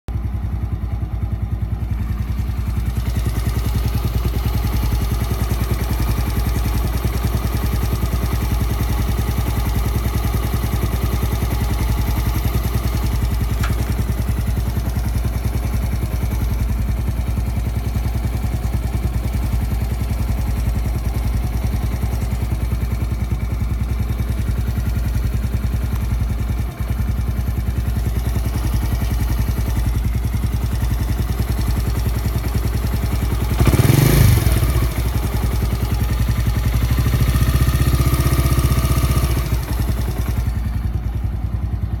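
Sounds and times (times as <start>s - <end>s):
motorcycle engine idling and revving: 0.0s - 42.0s.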